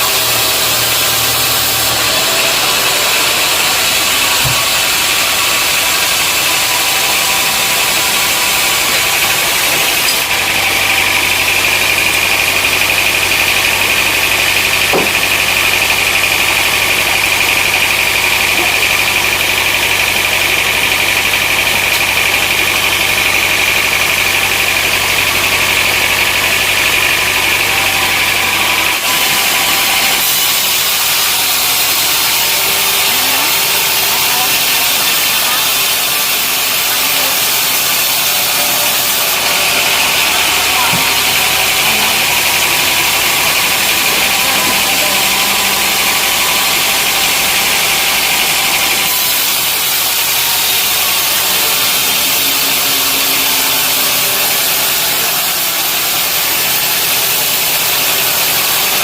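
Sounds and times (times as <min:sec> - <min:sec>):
high whine: 0:00.0 - 0:59.0
sawmill machinery noise: 0:00.0 - 0:59.0.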